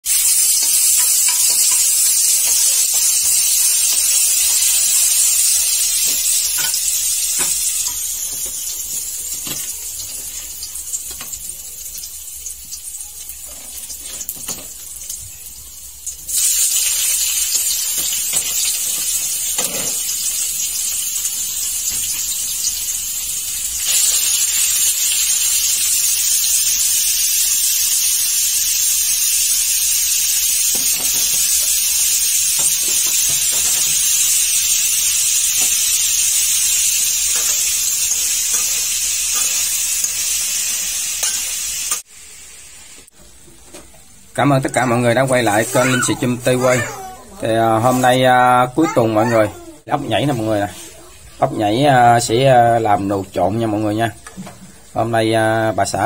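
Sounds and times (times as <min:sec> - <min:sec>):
chili sizzling in hot oil: 0:00.0 - 0:56.0.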